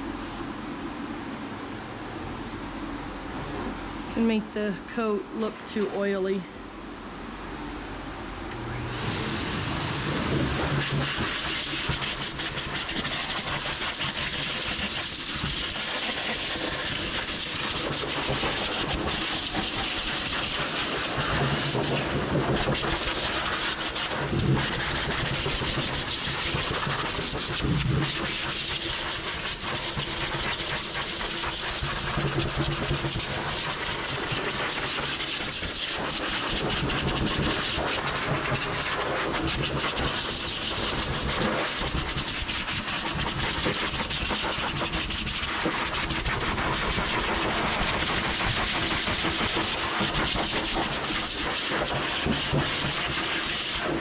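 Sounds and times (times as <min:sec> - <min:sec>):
pet dryer blowing air: 0:08.4 - 0:54.0.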